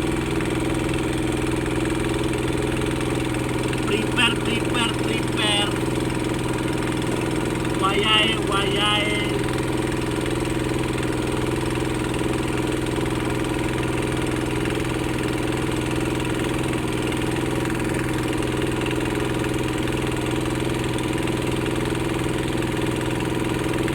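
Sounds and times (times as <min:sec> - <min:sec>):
engine idling: 0:00.0 - 0:23.9.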